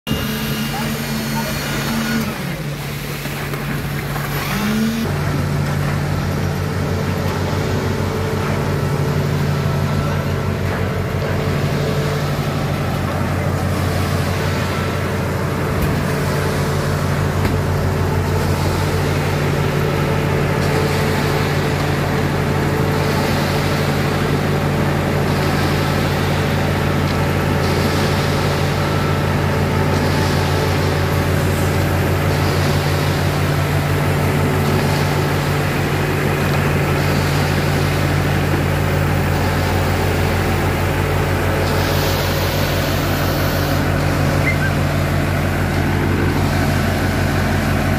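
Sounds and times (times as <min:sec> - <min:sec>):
concrete pump and mixer engines: 0:00.1 - 0:47.9.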